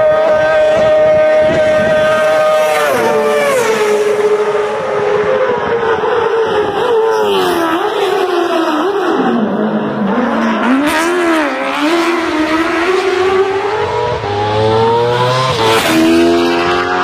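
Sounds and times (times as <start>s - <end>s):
racing engine at high revs: 0.0s - 17.0s.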